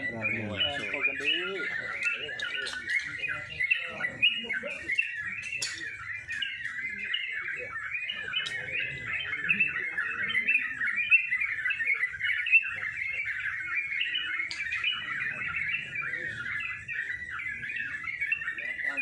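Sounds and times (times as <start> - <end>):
birds chirping in chorus: 0.0 - 19.0.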